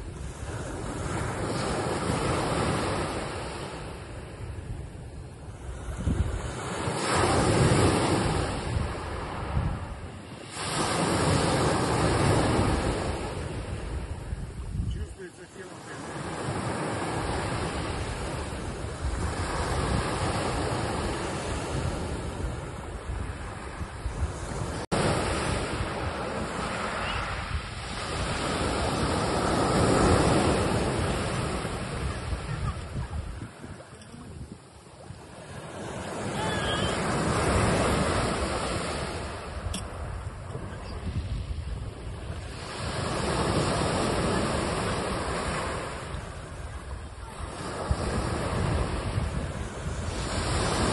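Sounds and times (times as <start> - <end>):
waves washing over pebbles: 5.4 - 50.9.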